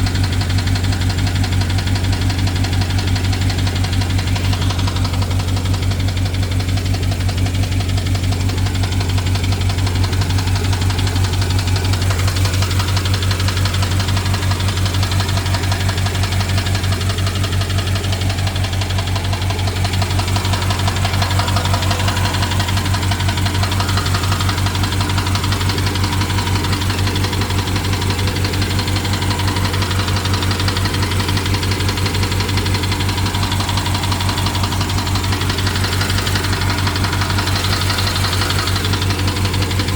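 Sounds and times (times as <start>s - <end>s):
car engine idling: 0.0s - 39.9s
quick even engine ticking: 0.0s - 39.9s.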